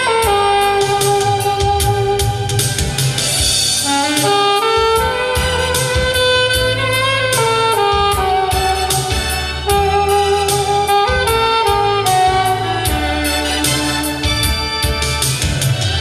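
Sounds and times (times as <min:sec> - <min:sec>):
backing track with drum beat: 0:00.0 - 0:16.0
saxophone melody: 0:00.0 - 0:16.0.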